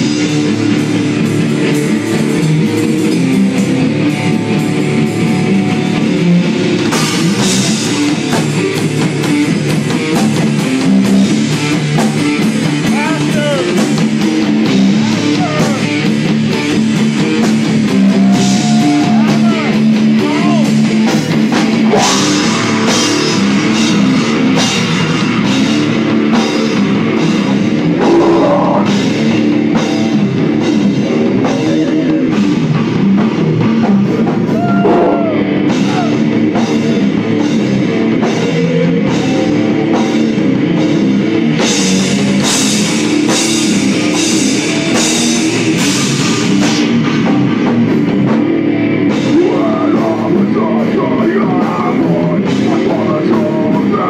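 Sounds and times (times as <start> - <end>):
bass guitar: 0.0 - 54.0
distorted electric guitar: 0.0 - 54.0
drum kit: 0.0 - 54.0.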